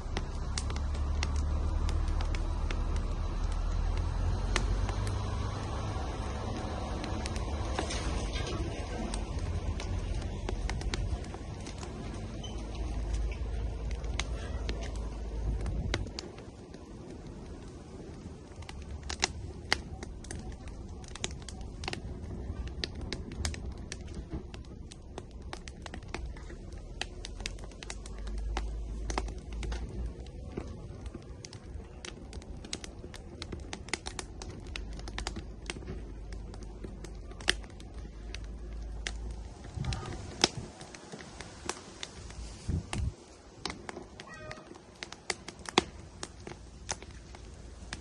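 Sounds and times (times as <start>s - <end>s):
low rumble: 0.0s - 48.0s
wood fire crackling and popping: 0.0s - 48.0s.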